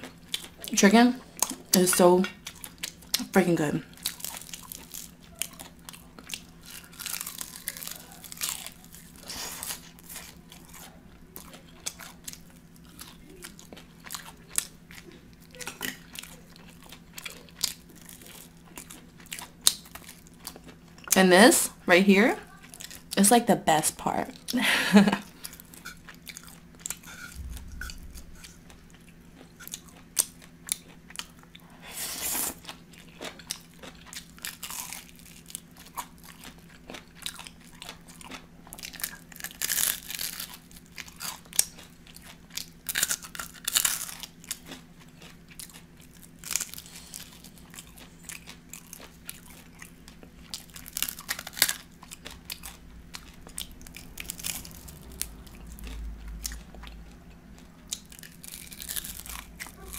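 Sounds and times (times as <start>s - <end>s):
faint steady hum: 0.0s - 59.9s
wet chewing: 1.4s - 3.3s, 3.9s - 21.2s, 24.4s - 59.9s
crunching chicken skin: 3.9s - 21.0s, 25.0s - 59.9s.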